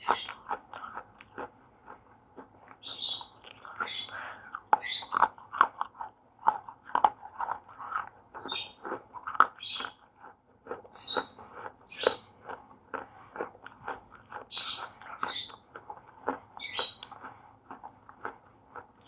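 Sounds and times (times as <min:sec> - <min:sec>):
slate pencils crunching when chewed: 0:00.0 - 0:19.0.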